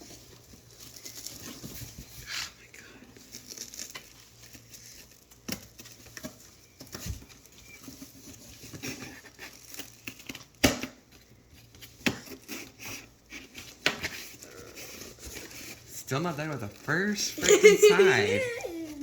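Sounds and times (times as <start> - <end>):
cardboard crinkling and scraping: 0.0 - 19.0.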